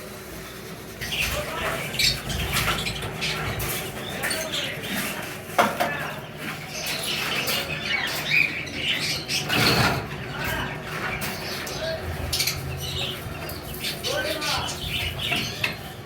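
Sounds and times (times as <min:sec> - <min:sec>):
caged birds chirping: 0:00.0 - 0:16.0.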